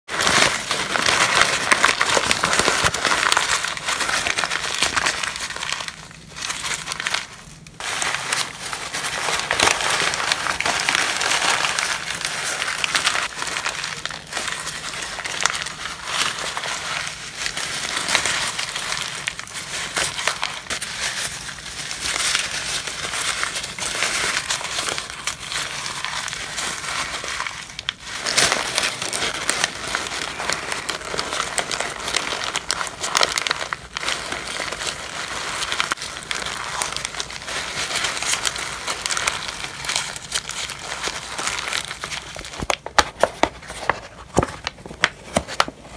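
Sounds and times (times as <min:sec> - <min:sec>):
paper crumpling and crackling: 0:00.1 - 0:45.9.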